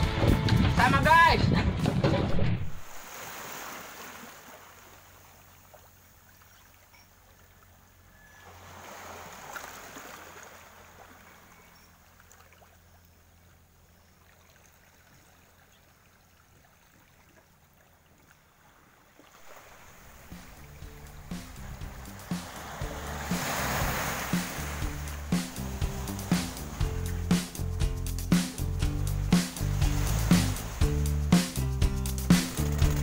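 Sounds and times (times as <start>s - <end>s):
water lapping at rocky shore: 1.7s - 27.6s, 29.3s - 31.5s.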